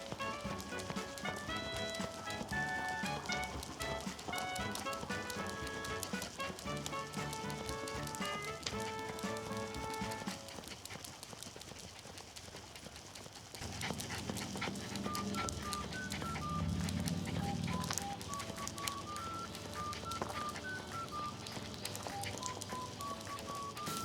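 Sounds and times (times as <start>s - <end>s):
scattered sharp clicks: 0.0s - 24.0s.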